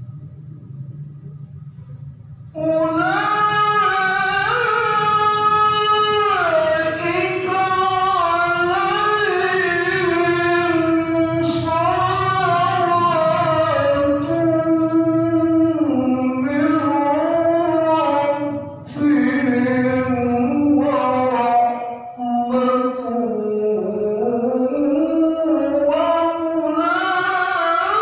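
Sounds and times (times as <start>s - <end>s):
steady low hum: 0.0s - 28.0s
man reciting melodically: 2.5s - 28.0s.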